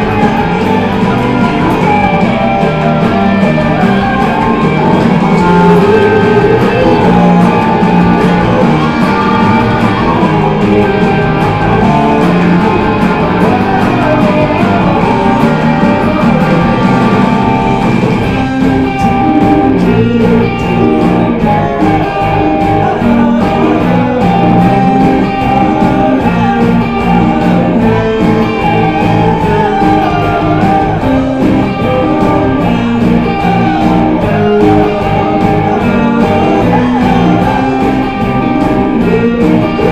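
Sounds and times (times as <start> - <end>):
rock song with guitar: 0.0 - 39.9.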